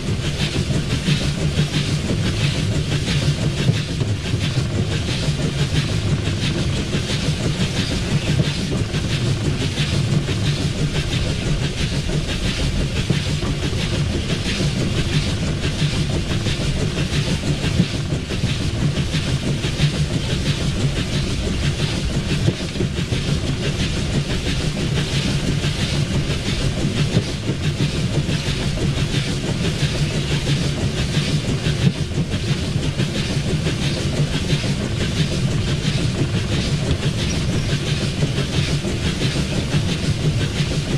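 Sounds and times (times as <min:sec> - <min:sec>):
steam hiss: 0:00.0 - 0:40.9
wheel and rail clatter: 0:00.0 - 0:40.9.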